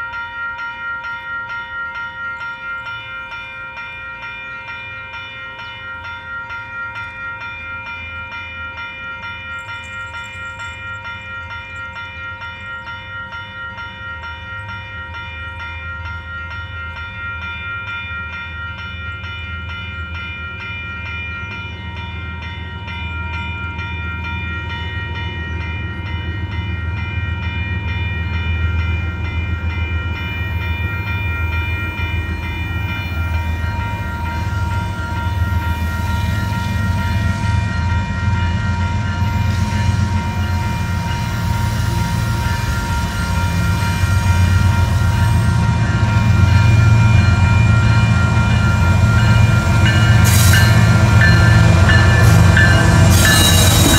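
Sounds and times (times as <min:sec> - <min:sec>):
diesel locomotives rumbling: 0:00.0 - 0:53.9
railroad crossing bell ringing: 0:00.0 - 0:53.9.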